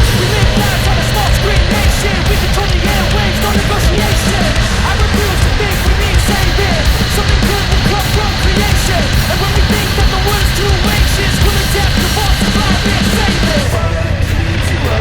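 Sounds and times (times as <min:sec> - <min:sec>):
loud hard rock music with singing: 0:00.0 - 0:15.0.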